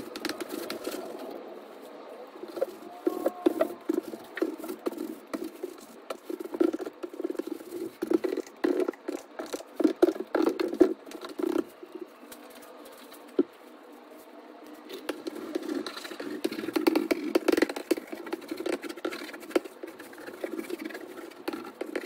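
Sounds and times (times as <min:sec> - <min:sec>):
fingers rubbing on paper: 0:02.5 - 0:13.5, 0:14.9 - 0:22.0.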